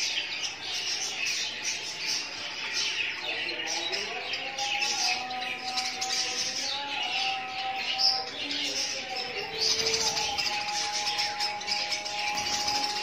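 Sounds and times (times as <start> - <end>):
budgerigars chattering and chirping: 0.0 - 13.0.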